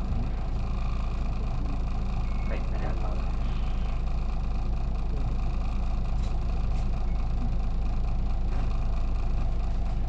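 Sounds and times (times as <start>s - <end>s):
bus diesel engine drone: 0.0s - 10.0s.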